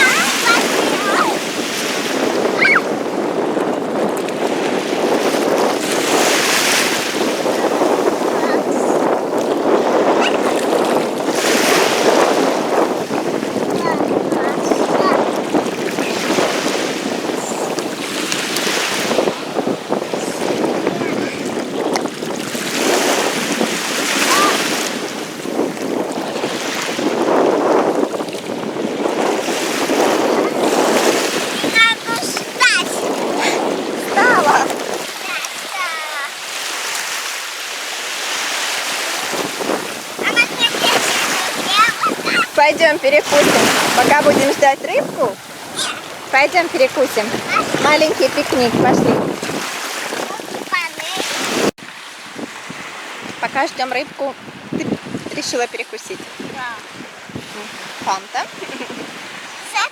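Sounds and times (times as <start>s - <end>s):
sea waves washing on shore: 0.0s - 59.9s
wind buffeting microphone: 0.0s - 59.9s.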